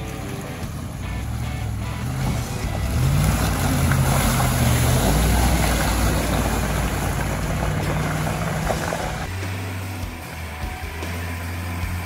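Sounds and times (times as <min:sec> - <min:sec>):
car engine running: 0:00.0 - 0:12.0
driving noise: 0:00.0 - 0:12.0.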